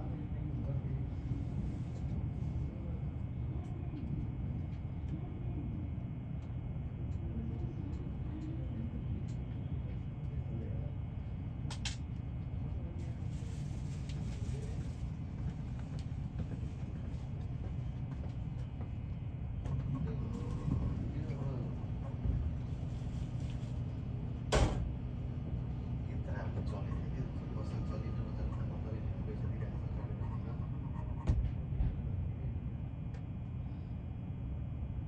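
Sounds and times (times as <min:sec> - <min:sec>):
low rumble inside train carriage: 0:00.0 - 0:35.0.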